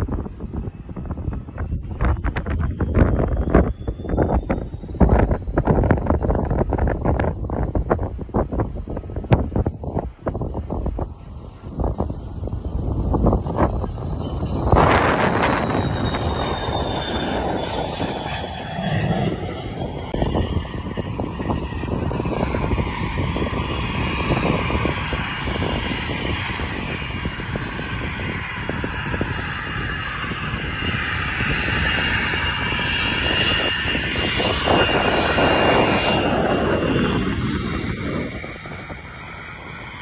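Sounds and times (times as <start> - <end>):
airplane engines rumbling and whining: 0.0 - 40.0.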